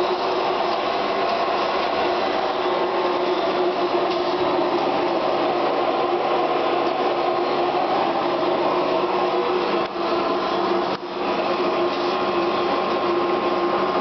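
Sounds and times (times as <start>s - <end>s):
blower droning: 0.0s - 14.0s.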